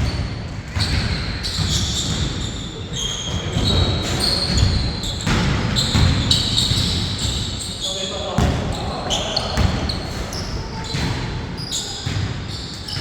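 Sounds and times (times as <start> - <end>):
basketball dribbling thuds: 0.0 - 7.5, 8.4 - 13.0
sneaker squeaks: 0.0 - 13.0.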